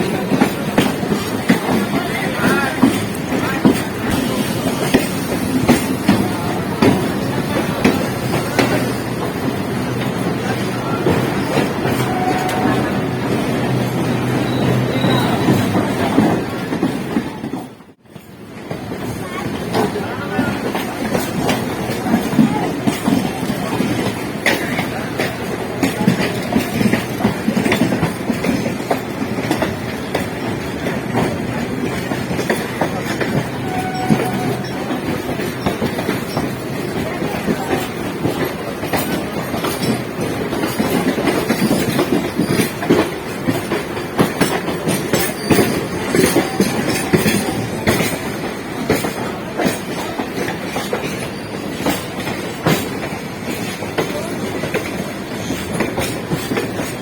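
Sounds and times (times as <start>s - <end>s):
train rumbling on track: 0.0s - 57.0s
wheels clacking over rail joints: 0.0s - 57.0s.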